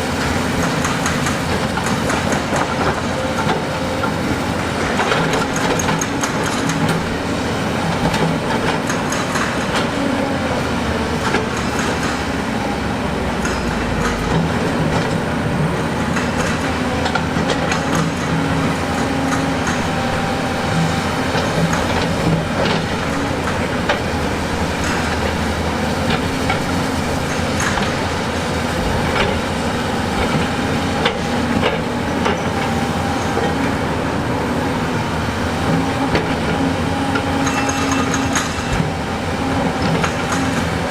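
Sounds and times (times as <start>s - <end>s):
diesel engine running: 0.0s - 40.9s
steel tracks clanking: 0.0s - 40.9s.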